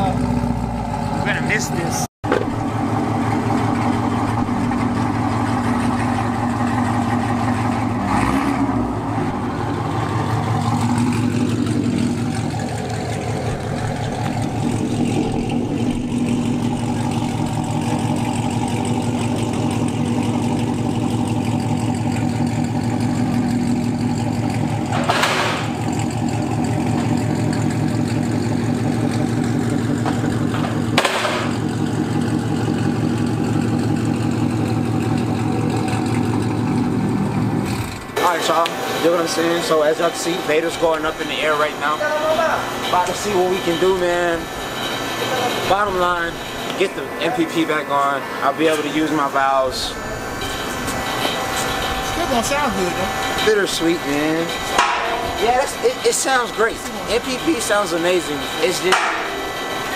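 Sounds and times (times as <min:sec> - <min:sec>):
car engine idling burble: 0:00.0 - 0:59.9.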